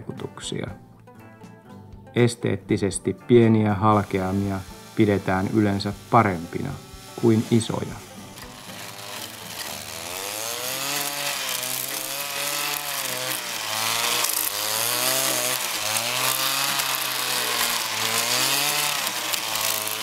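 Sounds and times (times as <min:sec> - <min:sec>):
cutter disc rasping on log: 0:03.9 - 0:20.0
small petrol engine running: 0:03.9 - 0:20.0.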